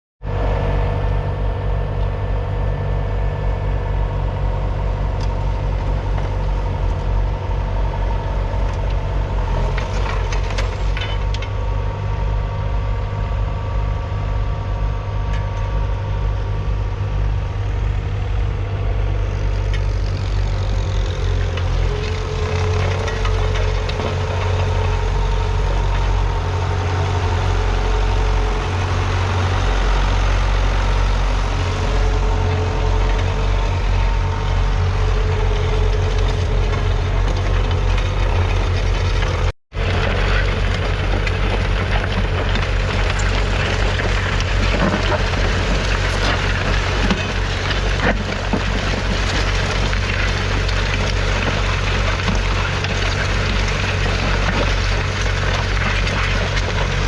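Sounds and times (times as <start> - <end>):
diesel engine running: 0.2 - 57.0.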